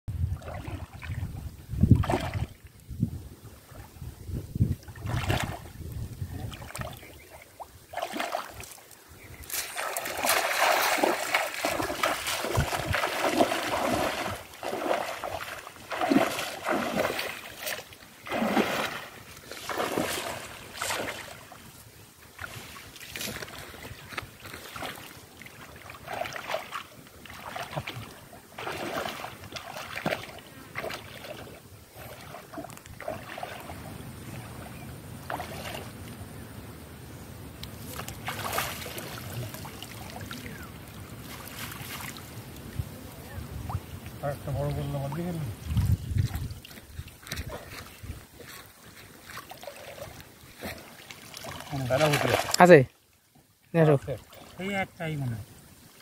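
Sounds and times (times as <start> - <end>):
water sloshing and splashing: 0.2 - 2.8, 4.6 - 36.2, 37.7 - 54.6.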